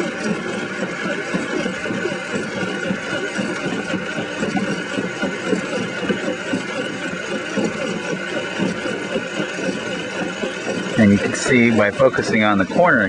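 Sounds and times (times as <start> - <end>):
irregular mechanical rattle: 0.0 - 13.0
mechanical drive running: 0.0 - 13.0.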